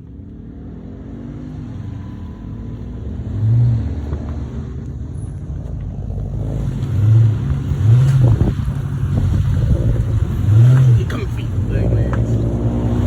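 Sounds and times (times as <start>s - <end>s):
car engine revving: 0.2s - 13.0s.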